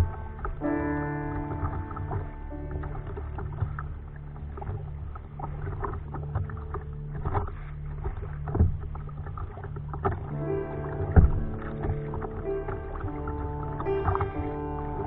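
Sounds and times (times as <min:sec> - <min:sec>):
kayak paddle splashing in water: 0:00.0 - 0:15.0
steady low hum: 0:00.0 - 0:15.0.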